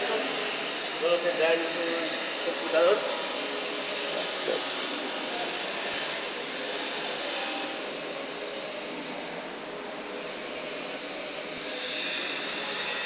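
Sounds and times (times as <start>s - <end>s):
whooshing motor noise: 0.0s - 13.0s.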